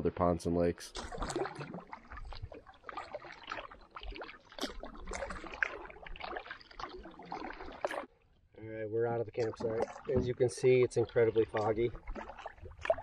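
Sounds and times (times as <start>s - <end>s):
paddle splashing in water: 0.8s - 8.3s, 9.2s - 13.0s
water dripping off paddle: 0.9s - 8.3s, 9.2s - 13.0s.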